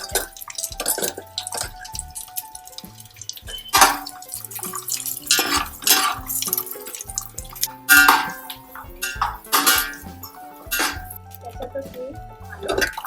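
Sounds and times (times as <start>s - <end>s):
utensil scraping cooking pan: 0.0s - 11.2s
quiet background music: 0.0s - 13.0s.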